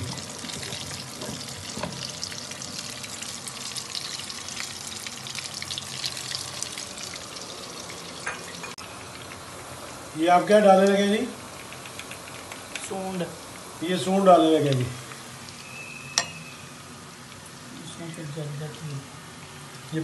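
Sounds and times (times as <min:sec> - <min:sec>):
hot oil sizzling in a frying pan: 0:00.0 - 0:11.8, 0:12.4 - 0:20.0.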